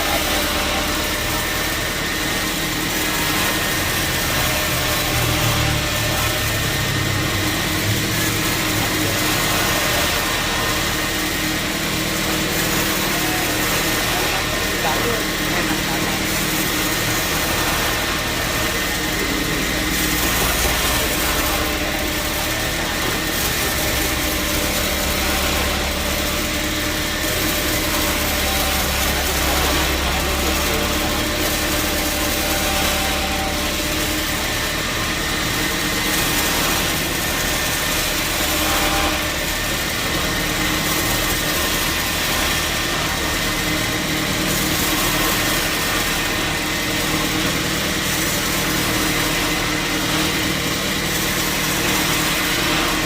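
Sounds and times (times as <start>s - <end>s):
high machine whine: 0.0s - 53.0s
motor drone: 0.0s - 53.0s.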